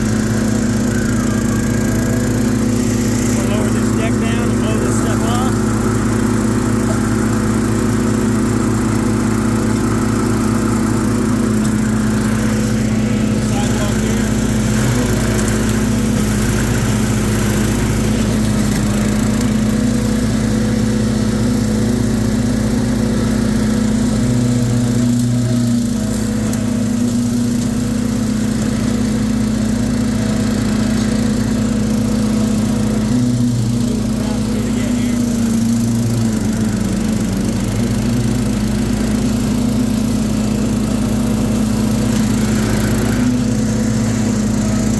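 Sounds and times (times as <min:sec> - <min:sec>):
riding mower engine running: 0:00.0 - 0:44.9.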